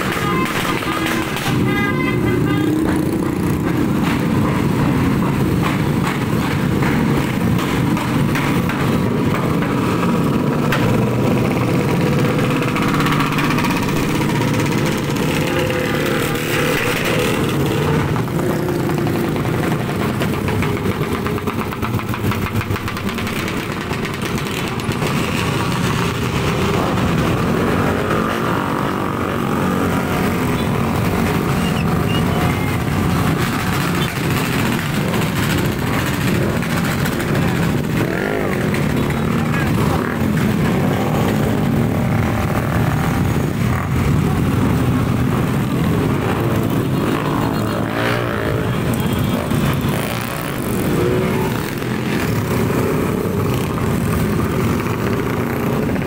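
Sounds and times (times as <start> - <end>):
scooters and motorcycles passing: 0.0 - 56.0.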